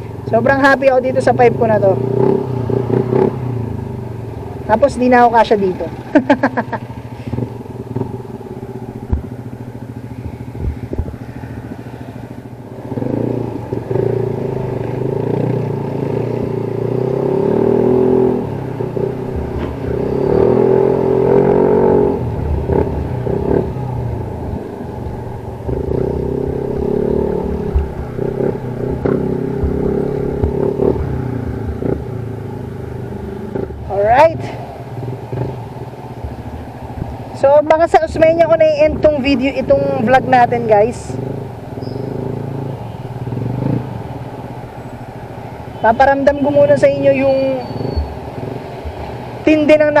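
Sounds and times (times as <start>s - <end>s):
scooter engine revving: 0.0s - 50.0s.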